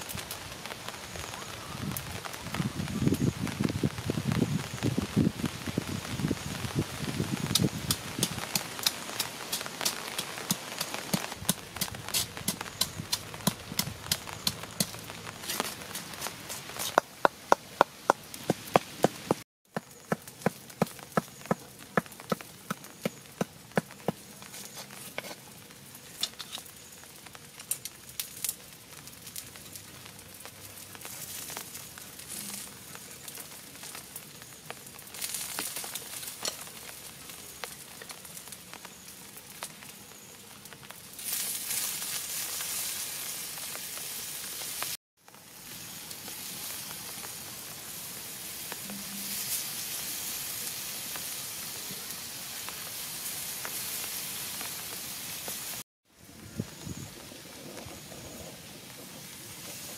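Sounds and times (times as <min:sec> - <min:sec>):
meat sizzling on hot stone: 0:04.0 - 0:55.8.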